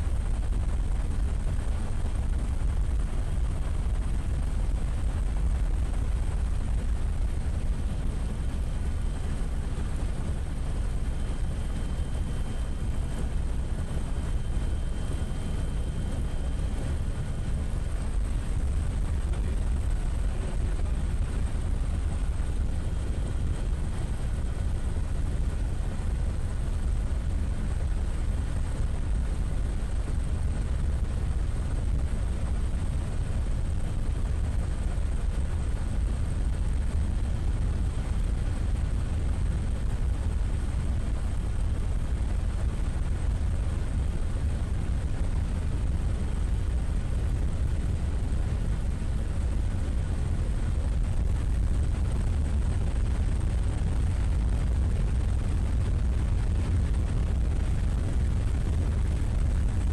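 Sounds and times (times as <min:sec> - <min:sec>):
aircraft engine rumble: 0:00.0 - 0:59.9
faint high whine: 0:00.0 - 0:59.9.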